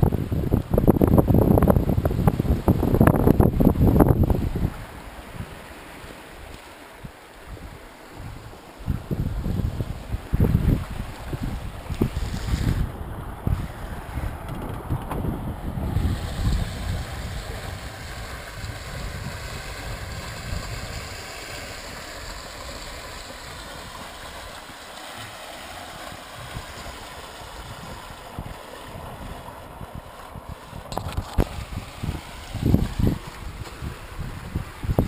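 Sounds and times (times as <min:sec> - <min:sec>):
wind buffeting microphone: 0:00.0 - 0:25.3, 0:26.0 - 0:35.0
water rushing along hull: 0:00.0 - 0:35.0.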